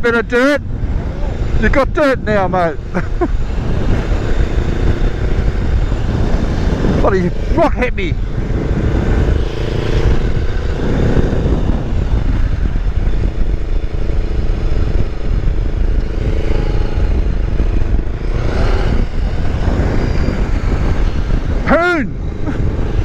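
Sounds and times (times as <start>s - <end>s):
motorcycle engine: 0.0s - 23.0s
wind buffeting microphone: 0.0s - 23.0s.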